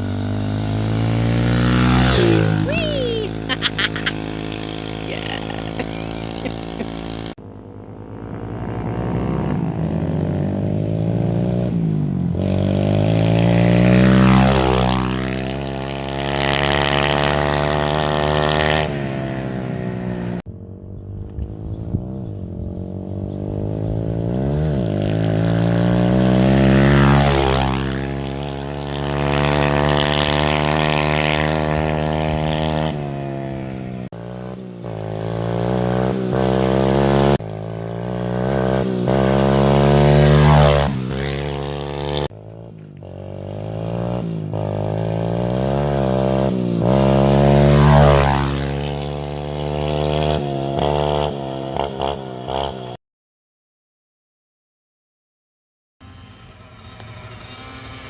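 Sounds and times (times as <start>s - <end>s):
dirt bike engine revving: 0.0s - 20.4s, 21.1s - 53.0s, 56.0s - 58.0s.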